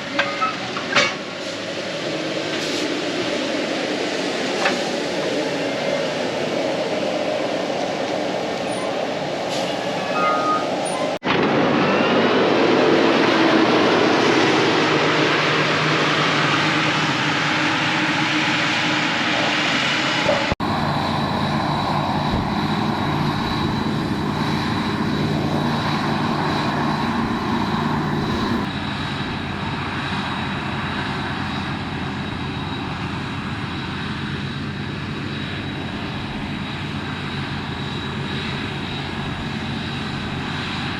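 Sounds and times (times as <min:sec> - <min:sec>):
diesel harvester running: 0:00.0 - 0:40.9.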